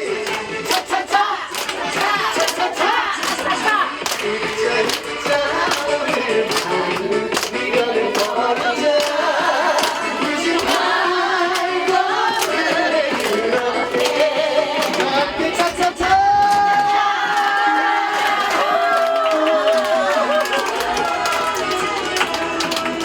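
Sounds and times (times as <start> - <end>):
backing track with steady beat: 0.0 - 18.8, 20.2 - 23.0.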